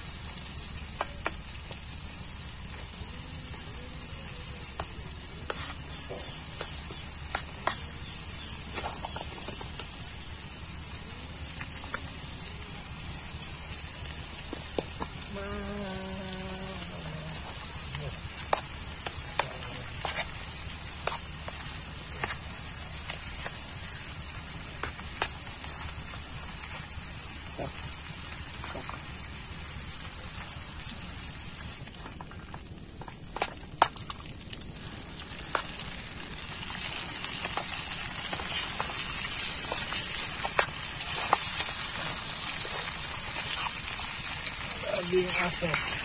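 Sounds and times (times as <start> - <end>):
stove high-pitched whine: 0.0 - 46.0.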